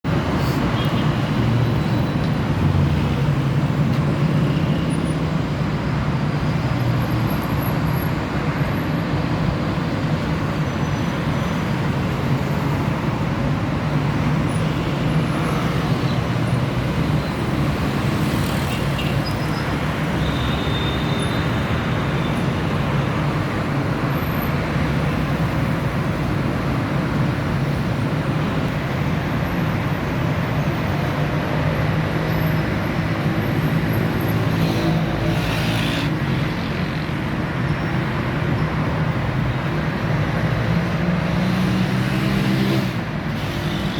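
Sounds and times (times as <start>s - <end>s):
road traffic engines: 0.0s - 43.9s.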